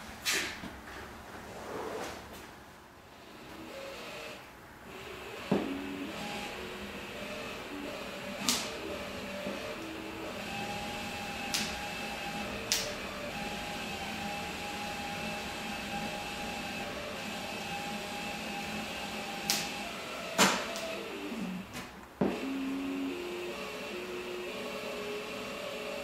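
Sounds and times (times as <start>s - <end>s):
cordless drill whining: 5.1s - 26.0s.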